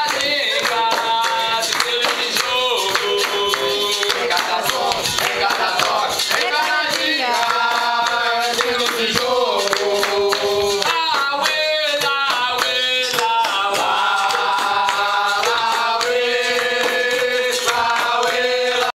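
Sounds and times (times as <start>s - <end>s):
group singing together: 0.0s - 18.9s
rhythmic hand clapping: 0.0s - 18.9s.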